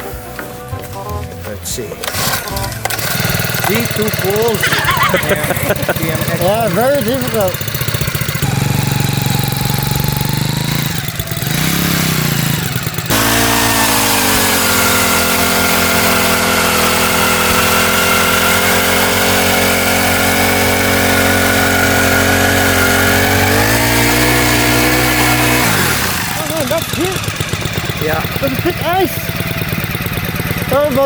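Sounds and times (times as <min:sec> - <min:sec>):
ice auger engine revving: 0:02.0 - 0:31.0.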